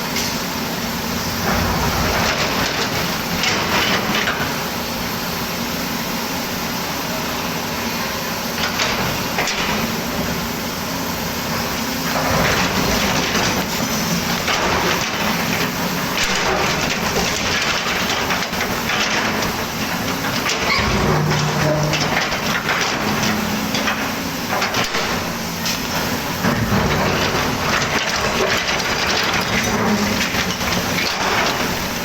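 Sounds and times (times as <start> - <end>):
excavator diesel engine running: 0.4 - 5.2, 6.8 - 32.0.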